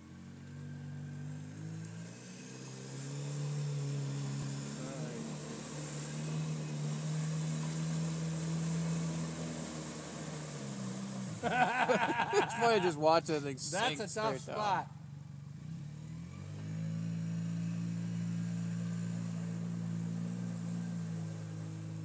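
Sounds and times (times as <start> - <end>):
wheels churning mud: 0.0 - 22.0
quad bike engine revving: 0.6 - 13.0, 15.5 - 22.0.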